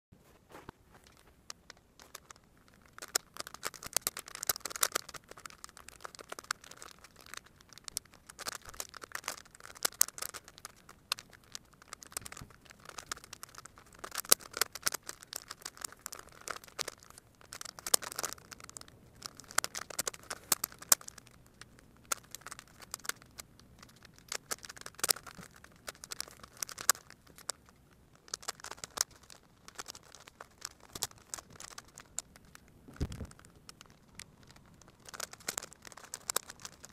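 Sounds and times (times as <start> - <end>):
plastic puzzle clicking: 1.0 - 36.9.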